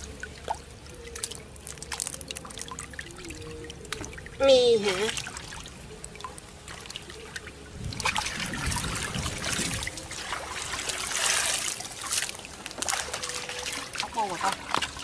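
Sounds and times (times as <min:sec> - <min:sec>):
muddy water trickling and sloshing: 0:00.0 - 0:15.0
small splashes: 0:00.0 - 0:15.0.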